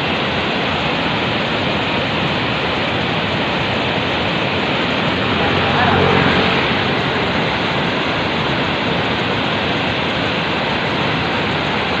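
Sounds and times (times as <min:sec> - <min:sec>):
loud steady rushing noise: 0:00.0 - 0:12.0.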